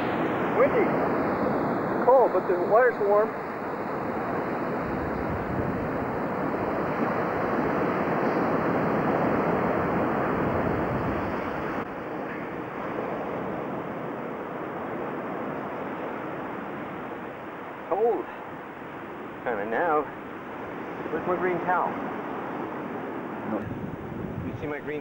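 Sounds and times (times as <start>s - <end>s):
surf washing onto beach: 0.0s - 25.0s.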